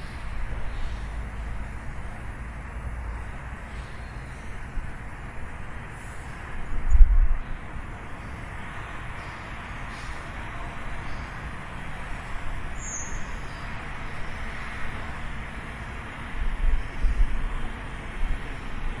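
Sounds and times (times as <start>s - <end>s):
distant city traffic hum: 0.0s - 19.0s.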